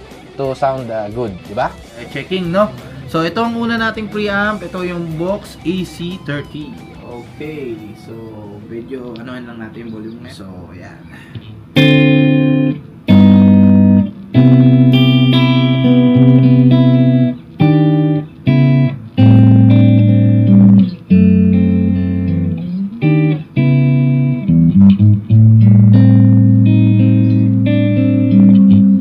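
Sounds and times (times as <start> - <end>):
electric guitar ringing chords: 0.0 - 10.3, 11.2 - 29.0.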